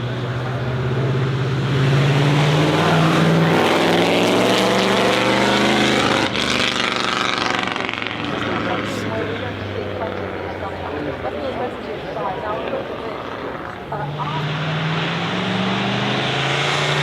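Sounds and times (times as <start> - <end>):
car engine running loudly: 0.0 - 17.0.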